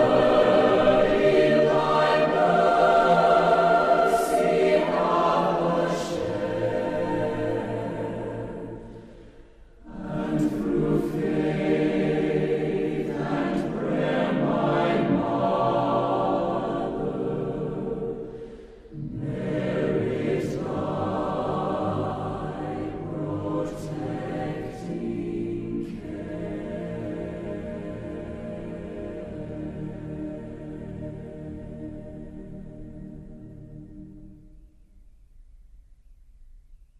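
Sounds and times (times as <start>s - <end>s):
choir singing sustained chords: 0.0s - 35.8s.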